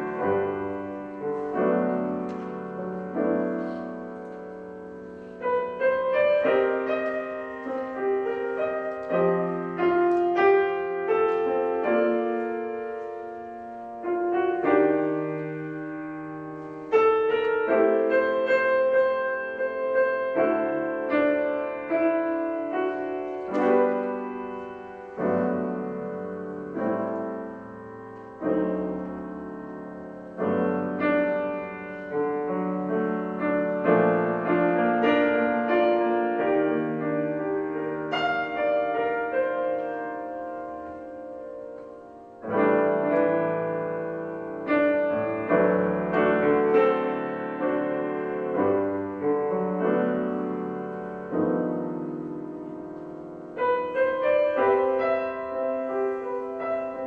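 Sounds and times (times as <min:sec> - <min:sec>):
solo piano jazz ballad: 0:00.0 - 0:57.0.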